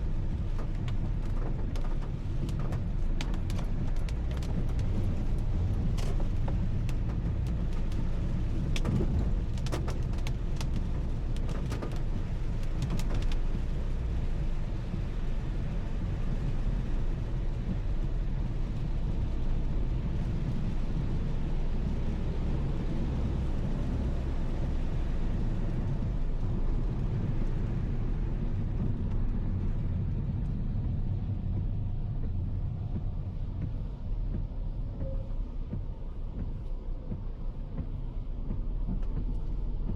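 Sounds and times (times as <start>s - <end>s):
engine and tyres rumbling: 0.0s - 39.9s.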